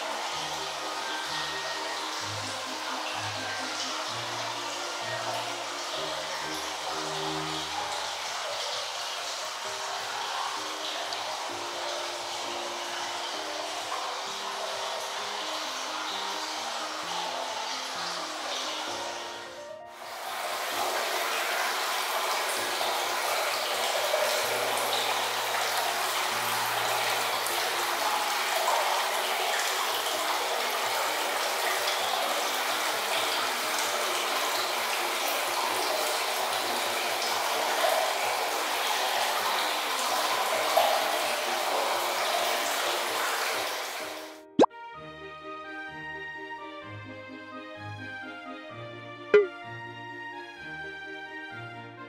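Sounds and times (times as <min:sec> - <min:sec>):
water pouring into stone bath: 0:00.0 - 0:44.5.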